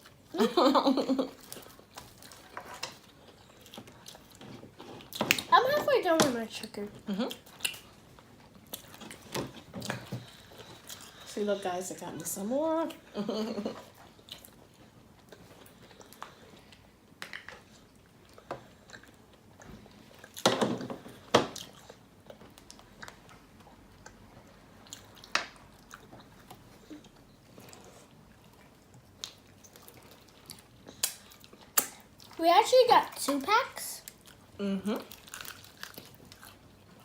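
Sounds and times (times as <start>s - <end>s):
chewing and crunching food: 1.1s - 37.0s.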